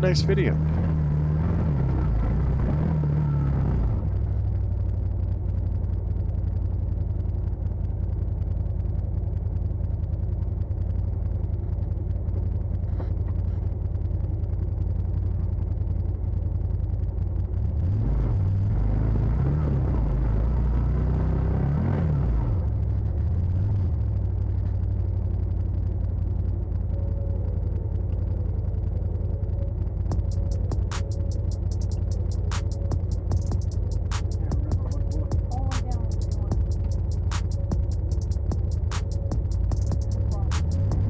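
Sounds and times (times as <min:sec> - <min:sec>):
engine running with low rumble: 0:00.0 - 0:41.0.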